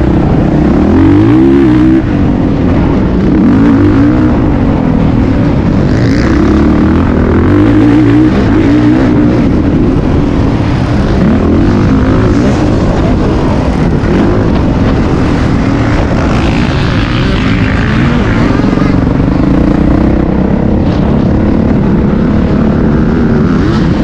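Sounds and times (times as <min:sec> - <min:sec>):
dirt bike engine revving: 0:00.0 - 0:24.0
steady rush of noise: 0:00.0 - 0:24.0.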